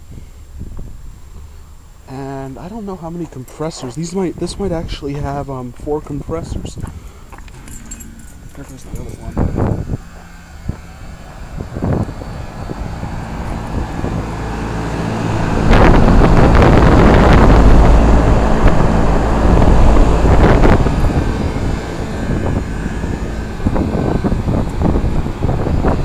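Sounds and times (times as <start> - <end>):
condenser fans rushing air: 0.0 - 26.0
low motor hum: 0.0 - 26.0.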